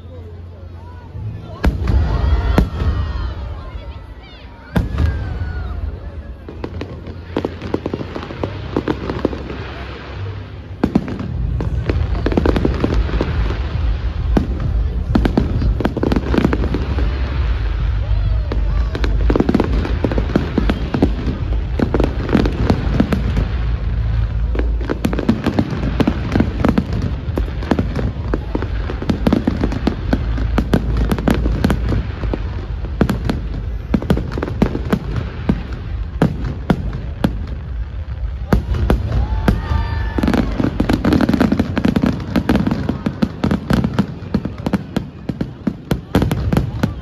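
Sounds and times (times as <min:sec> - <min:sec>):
firework crackles: 0:00.0 - 0:47.0.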